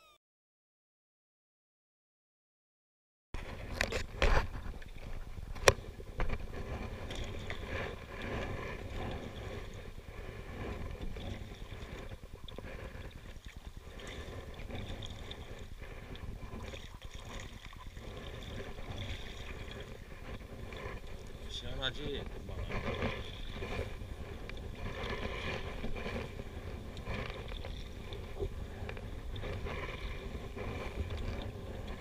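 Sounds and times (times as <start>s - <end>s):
paddle strokes: 3.4s - 32.0s
water lapping against hull: 3.4s - 32.0s.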